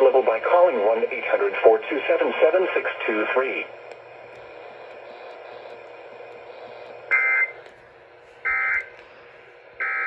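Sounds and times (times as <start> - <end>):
faint radio hiss: 0.0 - 8.4.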